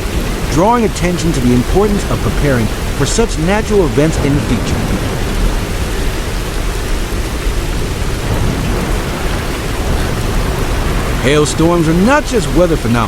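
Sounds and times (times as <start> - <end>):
deep rumble: 0.0 - 12.9
rain and hail pelting: 0.0 - 13.0.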